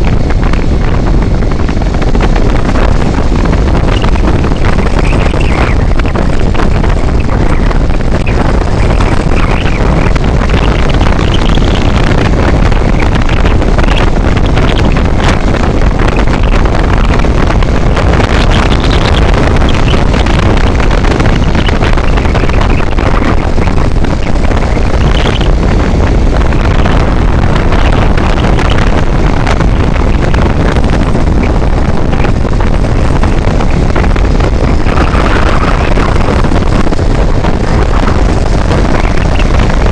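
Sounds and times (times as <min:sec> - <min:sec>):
road and engine noise: 0:00.0 - 0:39.9
wind buffeting microphone: 0:00.0 - 0:39.9.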